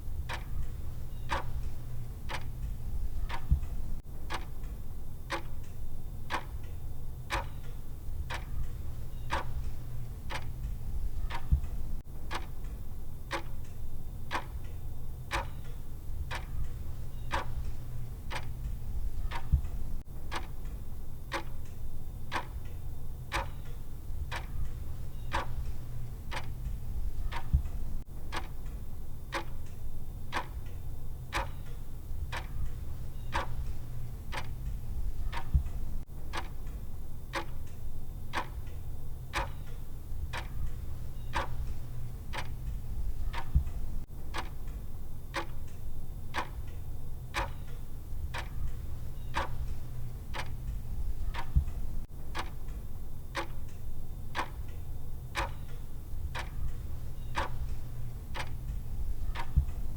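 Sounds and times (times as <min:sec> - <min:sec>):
clock ticking: 0:00.0 - 0:59.9
constant low hum: 0:00.0 - 0:59.9.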